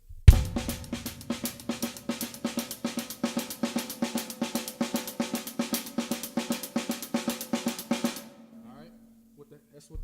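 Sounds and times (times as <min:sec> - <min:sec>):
drum kit played with sticks: 0:00.0 - 0:09.0.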